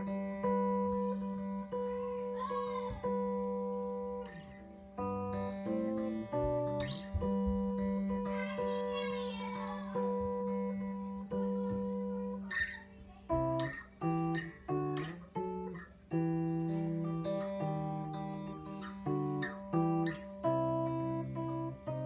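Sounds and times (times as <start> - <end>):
acoustic guitar picked melody: 0.0 - 22.0.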